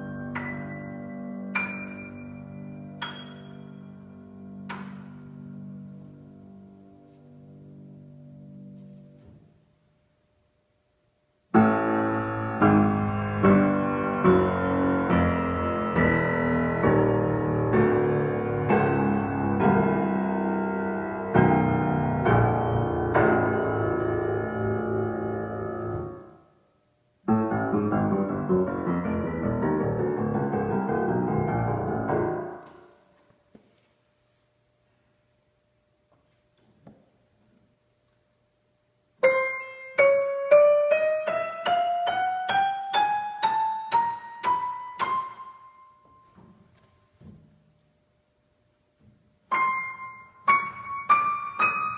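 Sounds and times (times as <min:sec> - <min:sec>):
piano chords: 0:00.0 - 0:09.7, 0:11.5 - 0:33.4, 0:39.1 - 0:47.8, 0:49.4 - 0:51.9.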